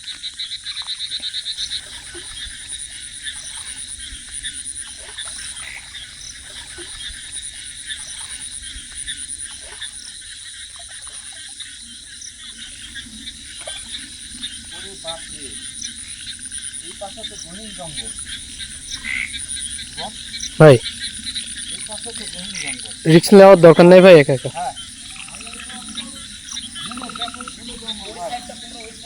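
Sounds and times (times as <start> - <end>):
frogs calling in chorus: 0.0 - 29.0
insects pulsing: 0.0 - 29.0
loud rapid frog call: 0.0 - 29.0.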